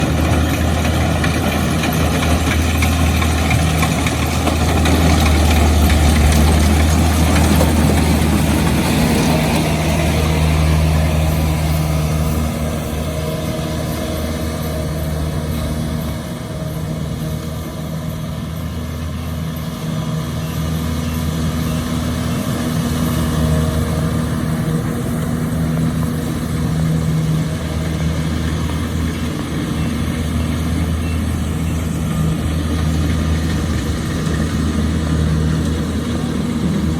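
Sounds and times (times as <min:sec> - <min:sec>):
harvesting machine engine running: 0:00.0 - 0:36.9.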